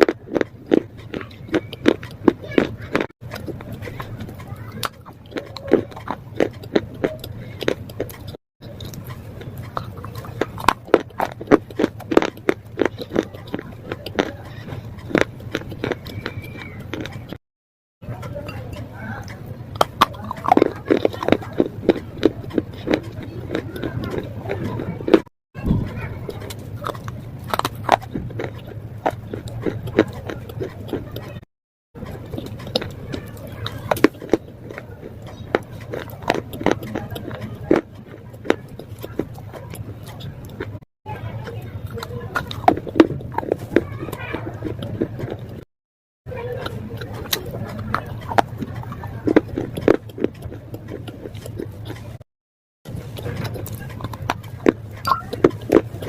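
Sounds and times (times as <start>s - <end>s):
person chewing crunchy slate: 0.0s - 17.4s, 18.1s - 45.7s, 46.3s - 52.3s, 52.9s - 56.0s.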